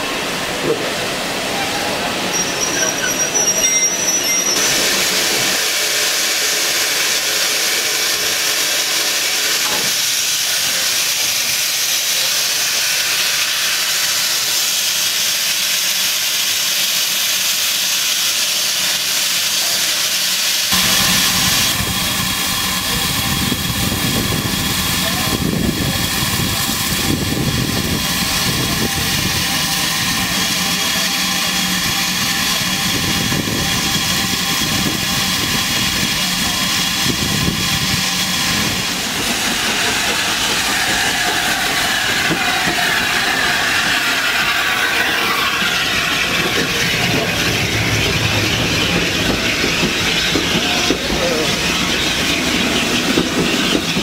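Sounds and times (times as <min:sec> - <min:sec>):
locomotive steam hissing: 0:00.0 - 0:54.0.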